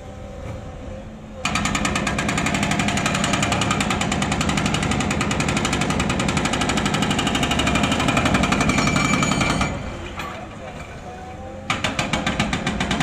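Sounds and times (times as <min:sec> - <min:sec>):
hydraulic breaker hammering concrete: 0:01.4 - 0:10.7, 0:11.7 - 0:13.0.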